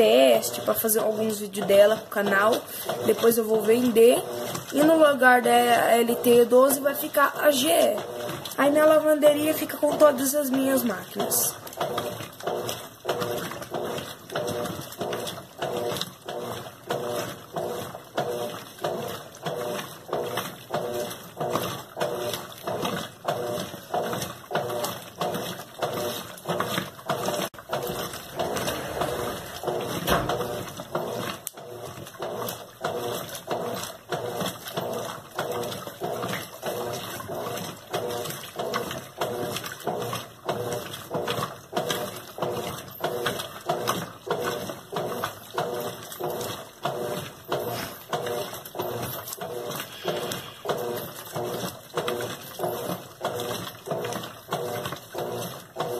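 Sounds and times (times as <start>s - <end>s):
washing machine agitator swishing: 0.0s - 55.9s.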